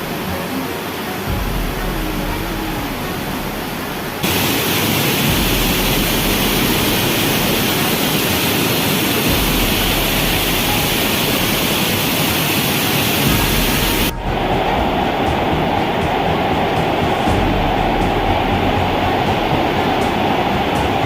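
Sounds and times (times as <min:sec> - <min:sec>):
heavy rain and flowing runoff: 0:00.0 - 0:21.0.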